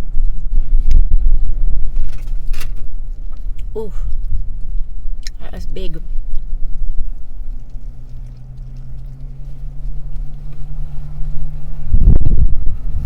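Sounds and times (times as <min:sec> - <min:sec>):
car engine idling: 0:02.2 - 0:13.0.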